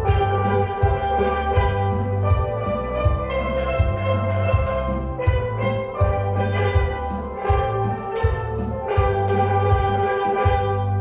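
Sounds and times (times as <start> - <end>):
low bass line: 0.0 - 11.0
steel pan ensemble playing: 0.0 - 11.0.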